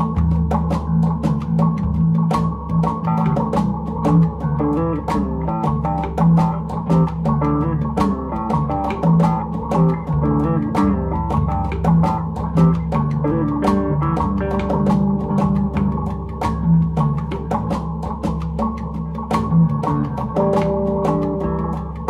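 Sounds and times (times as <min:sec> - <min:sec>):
guitar and bass tune: 0:00.0 - 0:22.0
steady drum beat: 0:00.0 - 0:22.0.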